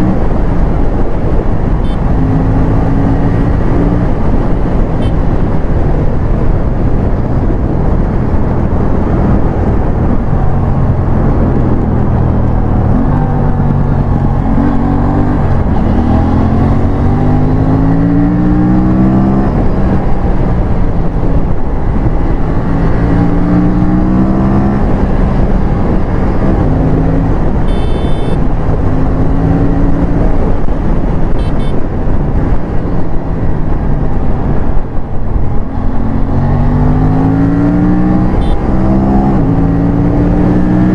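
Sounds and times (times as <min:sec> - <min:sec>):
wind rush on microphone: 0:00.0 - 0:40.9
motorcycle engine revving: 0:01.6 - 0:05.7, 0:08.0 - 0:31.8, 0:33.6 - 0:40.9.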